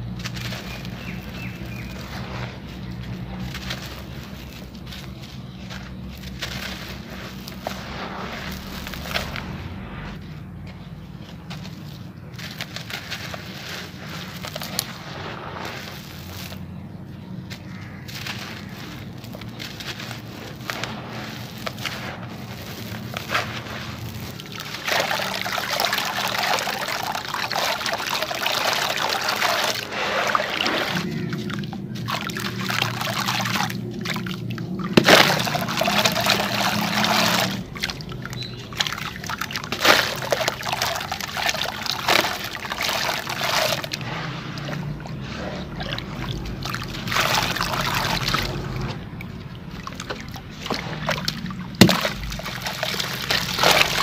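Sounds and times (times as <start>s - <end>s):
dry gritty crunching: 0.0s - 54.0s
water sloshing and splashing: 0.0s - 54.0s
wet crumbling and squeezing: 0.0s - 54.0s.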